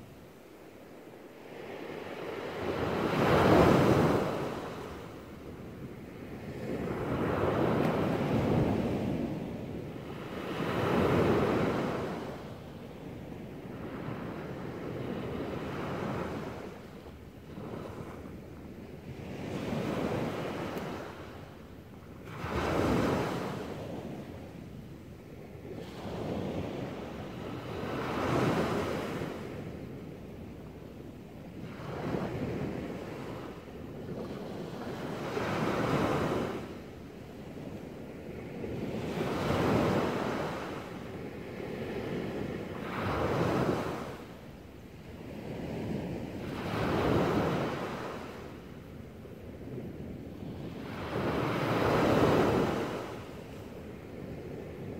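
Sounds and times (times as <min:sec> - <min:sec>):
small waves breaking on beach: 0:00.0 - 0:54.9.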